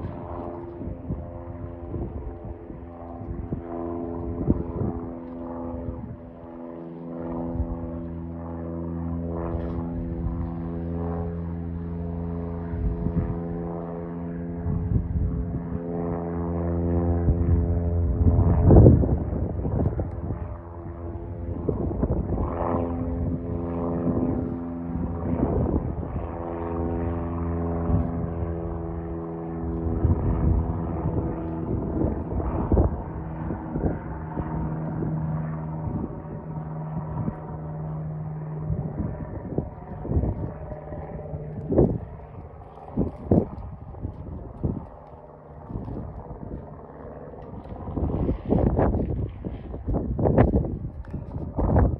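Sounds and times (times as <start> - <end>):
airplane engine and propeller droning: 0.0 - 51.9.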